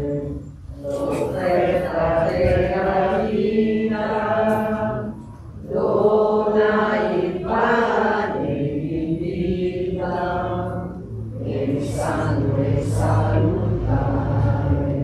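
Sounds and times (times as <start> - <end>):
voices singing a hymn: 0.0 - 15.0.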